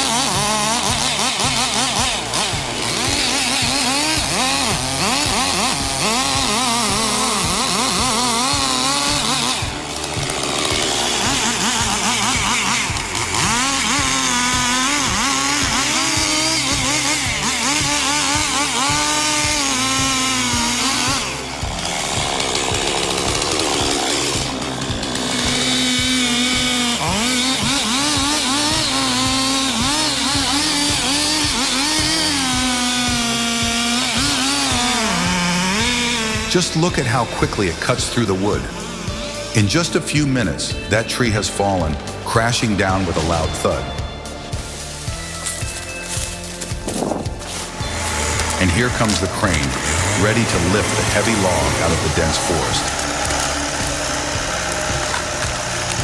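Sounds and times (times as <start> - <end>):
chainsaw cutting through tree: 0.0 - 56.0.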